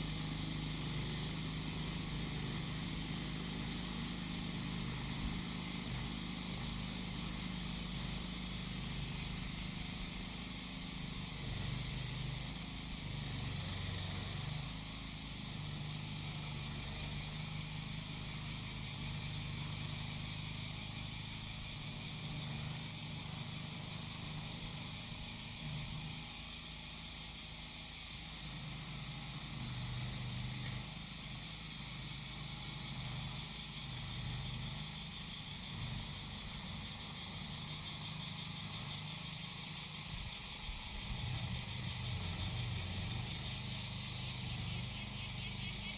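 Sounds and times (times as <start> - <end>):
cicadas singing: 0.0 - 45.9
grass cutter engine running: 0.0 - 45.9.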